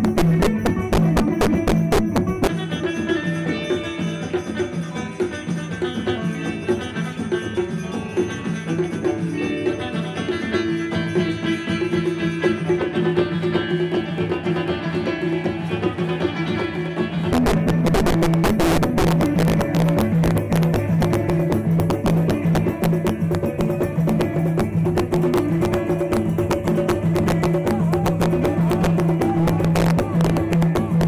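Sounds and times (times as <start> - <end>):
plucked lute playing: 0.0 - 15.3, 17.3 - 31.0
hand drums: 0.0 - 31.0.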